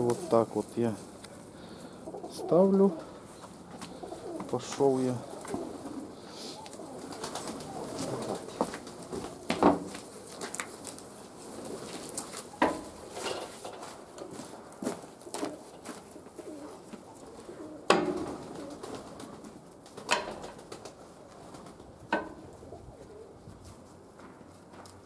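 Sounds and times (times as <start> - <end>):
pigeons cooing: 0.0 - 23.8.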